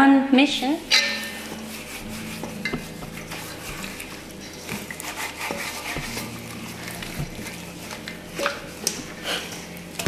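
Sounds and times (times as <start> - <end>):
hands squelching in marinade: 0.8 - 10.0.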